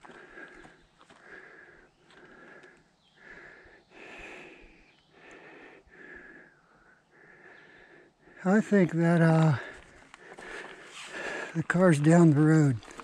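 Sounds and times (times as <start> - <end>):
person breathing heavily: 0.0 - 8.8, 9.4 - 11.7.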